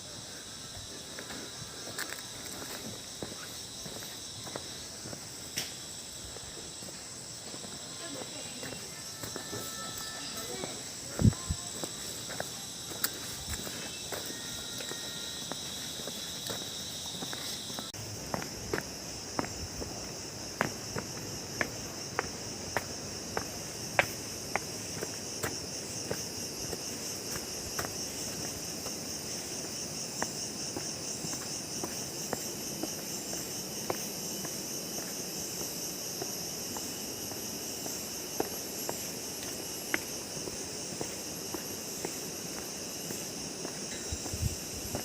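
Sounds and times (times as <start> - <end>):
footsteps on forest path: 0.0 - 45.0
insect chorus: 0.0 - 45.0.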